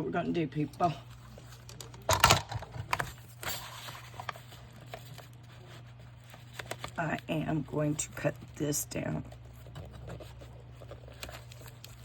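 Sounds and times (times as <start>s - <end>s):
paper rustling: 1.0s - 12.0s.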